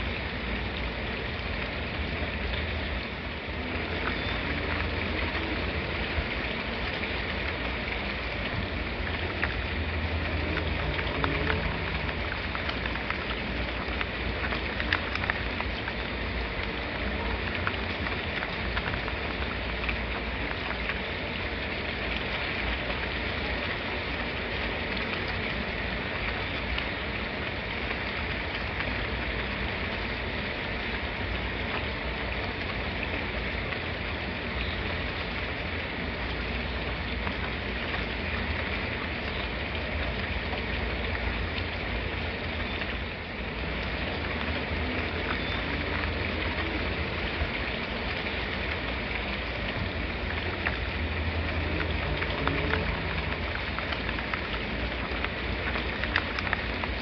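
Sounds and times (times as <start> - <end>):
raindrop ticks: 0.0 - 57.0
steady rain hiss: 0.0 - 57.0.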